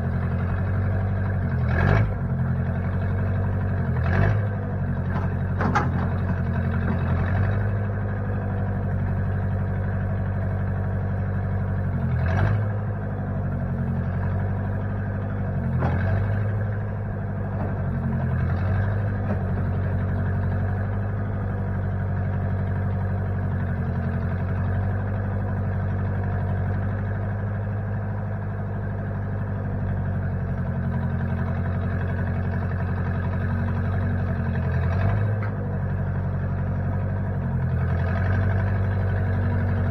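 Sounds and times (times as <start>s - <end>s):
tractor engine running at low speed: 0.0s - 39.9s.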